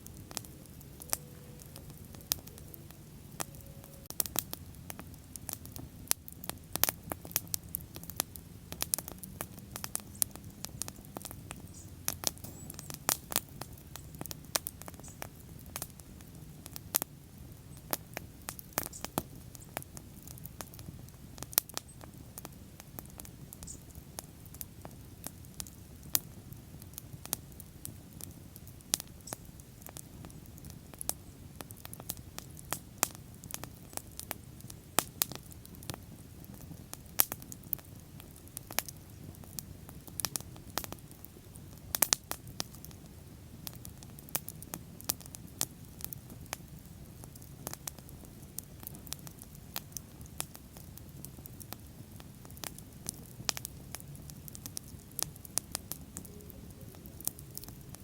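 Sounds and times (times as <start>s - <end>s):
bonfire crackling and popping: 0.0s - 58.0s
low rumble of flames: 0.0s - 58.0s.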